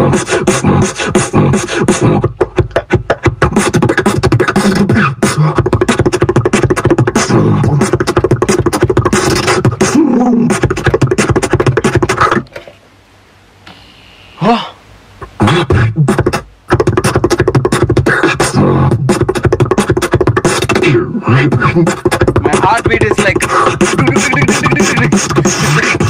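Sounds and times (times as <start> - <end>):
beatboxing: 0.0 - 12.6, 14.4 - 26.0.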